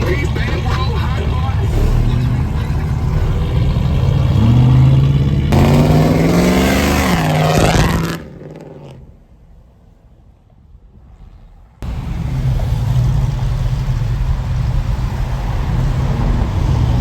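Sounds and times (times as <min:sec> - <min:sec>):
car engine revving: 0:00.0 - 0:09.4, 0:11.8 - 0:17.0.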